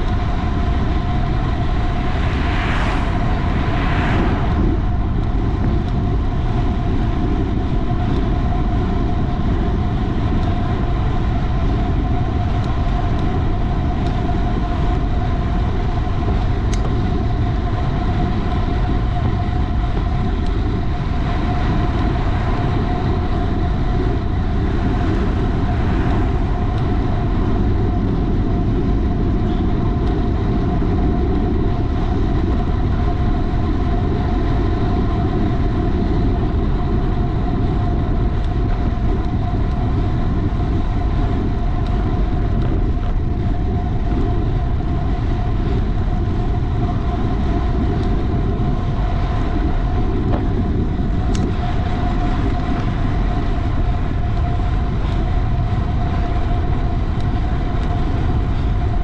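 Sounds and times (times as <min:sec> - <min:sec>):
road noise: 0:00.0 - 0:59.0
thin steady whine: 0:00.0 - 0:59.0
wind rushing on microphone: 0:00.0 - 0:59.0.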